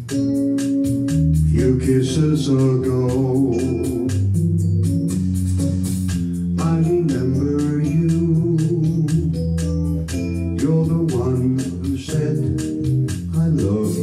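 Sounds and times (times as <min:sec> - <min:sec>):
accompaniment beat: 0:00.0 - 0:14.0
electronic keyboard organ chords: 0:00.0 - 0:14.0.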